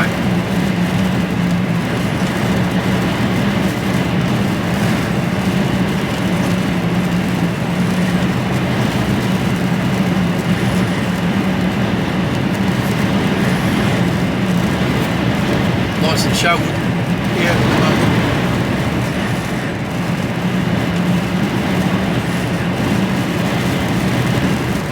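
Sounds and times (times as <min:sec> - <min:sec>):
road and wind noise: 0:00.0 - 0:24.9
truck engine drone: 0:00.0 - 0:24.9.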